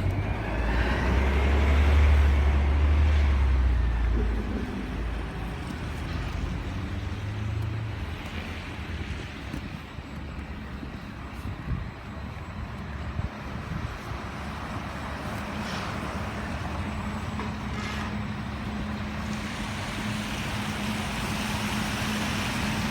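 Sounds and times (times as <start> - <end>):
road noise: 0.0 - 22.9
vehicle engine humming: 0.0 - 22.9.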